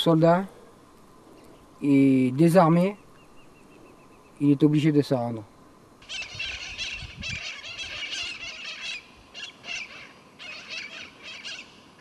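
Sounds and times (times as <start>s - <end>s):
birds chattering calls: 0.0s - 5.2s, 5.9s - 12.0s.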